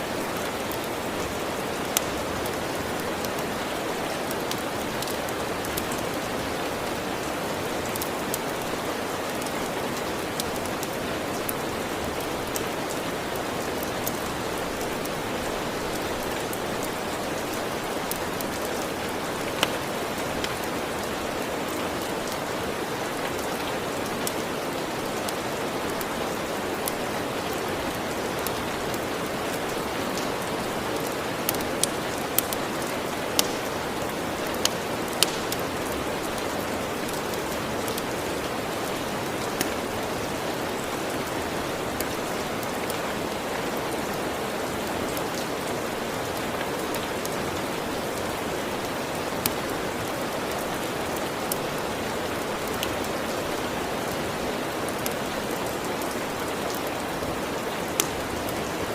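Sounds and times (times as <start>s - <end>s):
log fire crackles: 0.0s - 58.9s
steady rain: 0.0s - 58.9s.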